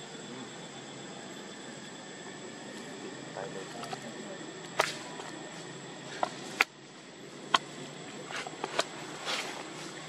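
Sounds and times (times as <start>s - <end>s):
background hiss: 0.0s - 10.0s.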